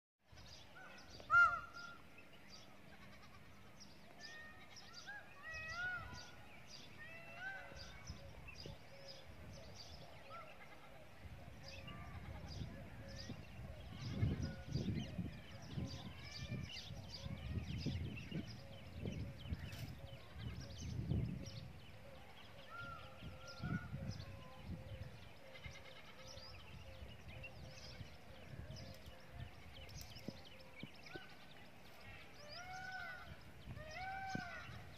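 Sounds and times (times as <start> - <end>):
small birds twittering: 0.3 - 34.9.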